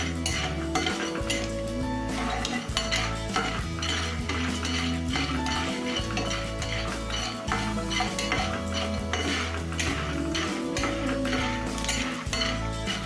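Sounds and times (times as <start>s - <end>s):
background music with held notes: 0.0s - 13.0s
spatula scraping kernels in pan: 0.0s - 13.0s.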